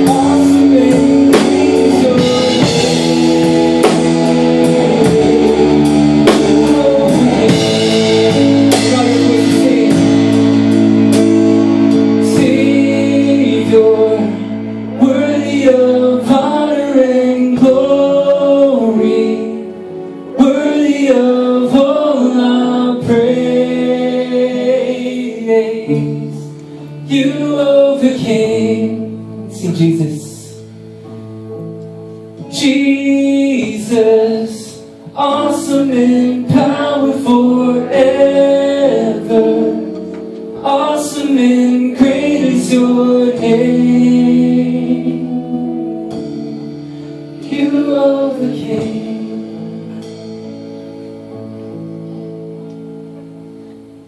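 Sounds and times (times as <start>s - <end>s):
person singing: 0.0s - 30.7s, 32.4s - 51.8s
guitar chords: 0.0s - 54.0s.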